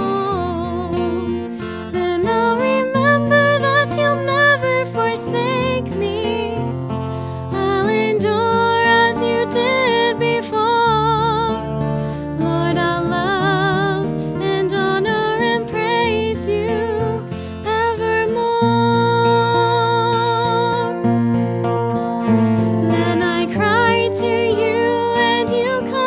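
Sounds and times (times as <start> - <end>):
woman singing with vibrato: 0.0 - 6.6, 7.5 - 11.8, 12.4 - 21.0, 22.6 - 26.0
twelve-string acoustic guitar: 0.0 - 26.0.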